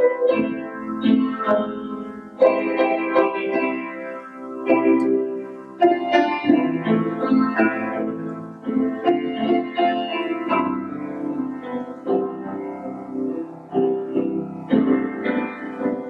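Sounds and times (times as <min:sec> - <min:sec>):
slow grand piano piece: 0:00.0 - 0:16.0.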